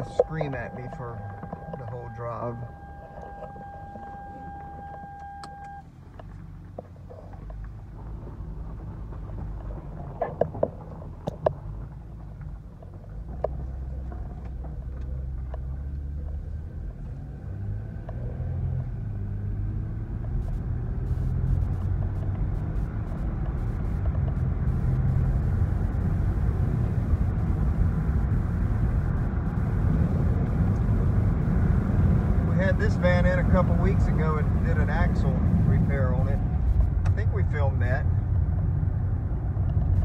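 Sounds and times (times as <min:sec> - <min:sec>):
car engine hum: 0:00.0 - 0:40.0
tyre and road noise: 0:00.0 - 0:40.0.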